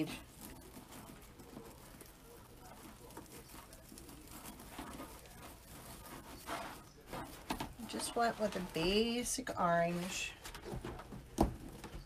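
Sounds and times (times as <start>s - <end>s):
plastic mesh rustling and crinkling: 0.0s - 12.0s.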